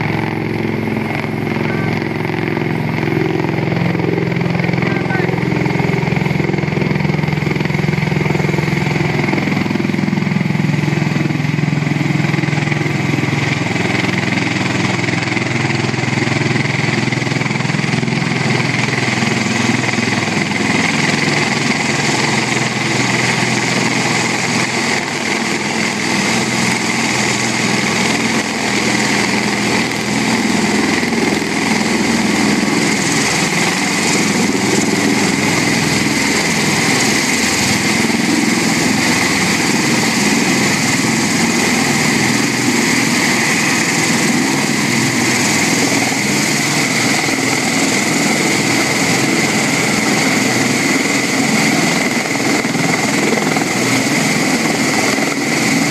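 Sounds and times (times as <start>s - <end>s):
aircraft engines and rotors: 0.0s - 55.9s
high whine: 0.0s - 55.9s.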